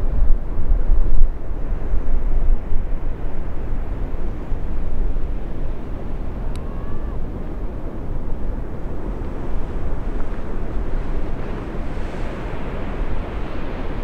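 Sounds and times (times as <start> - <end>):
wind buffeting microphone: 0.0 - 14.0
ocean surf breaking: 1.6 - 14.0.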